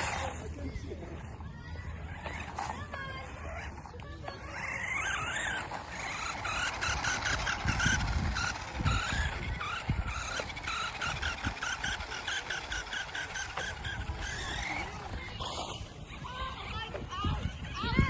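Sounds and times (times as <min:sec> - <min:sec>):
rc car motor whining: 0:00.0 - 0:18.0.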